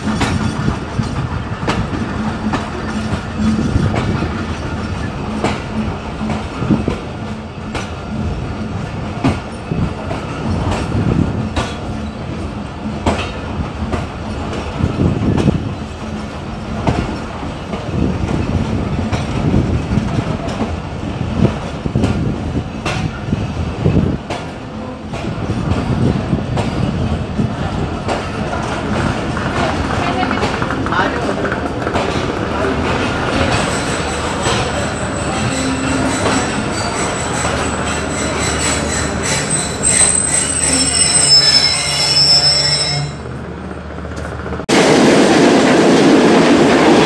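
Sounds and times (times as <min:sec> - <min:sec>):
train rumbling: 0:00.0 - 0:47.0
wheels clacking over rail joints: 0:00.0 - 0:47.0.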